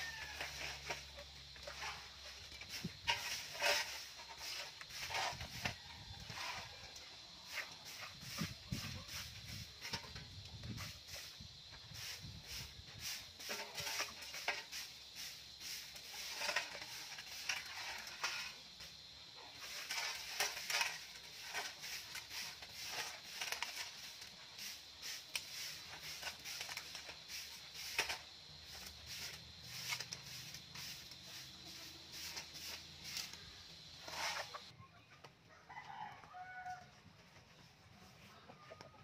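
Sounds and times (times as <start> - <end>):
stick broom sweeping leaves: 0.0 - 34.7.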